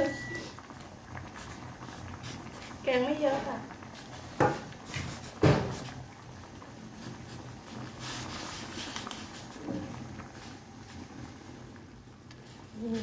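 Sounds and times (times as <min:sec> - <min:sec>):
curry bubbling at a boil: 0:00.0 - 0:13.0.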